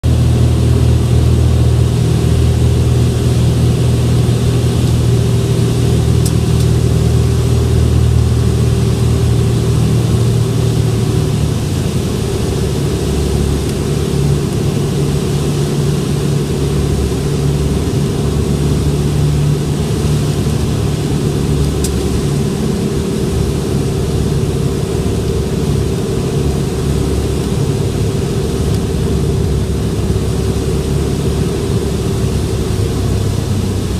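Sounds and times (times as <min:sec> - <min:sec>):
airplane engine droning: 0:00.0 - 0:33.9.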